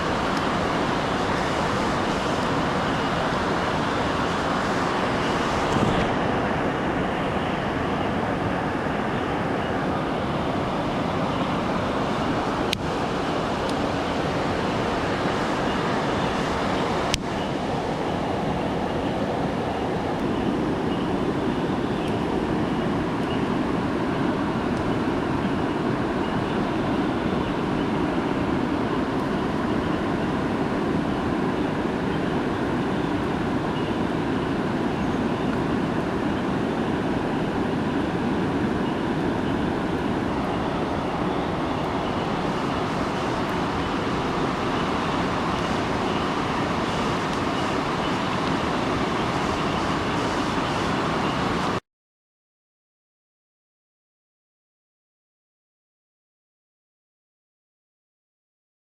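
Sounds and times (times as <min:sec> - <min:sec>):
waterfall roaring: 0:00.0 - 0:51.8.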